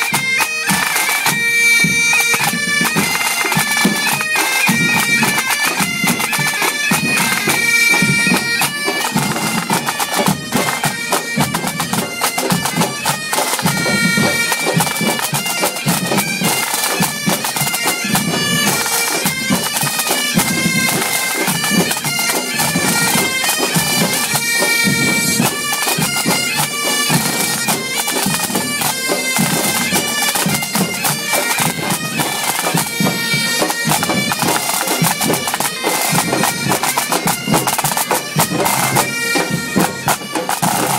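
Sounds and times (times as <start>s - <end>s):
bagpipes playing: 0.0s - 40.9s
drumming: 0.0s - 40.9s.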